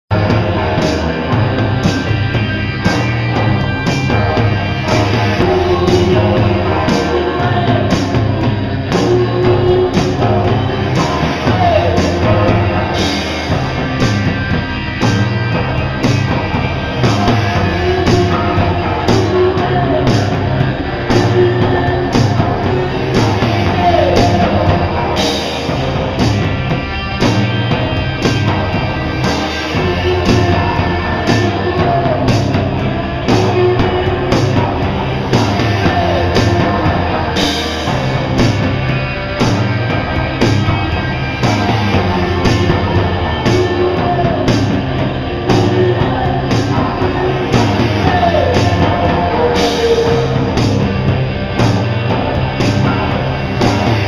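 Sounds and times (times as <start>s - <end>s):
bass guitar: 0.0s - 54.0s
electric guitar: 0.0s - 54.0s
steady drum beat: 0.0s - 54.0s.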